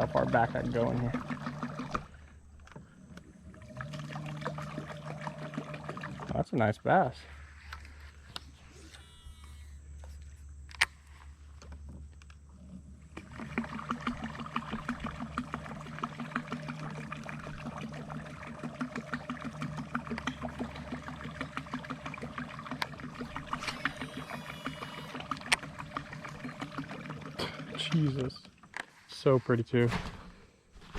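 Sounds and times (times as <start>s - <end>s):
electric motor propeller churning water: 0.0s - 29.4s.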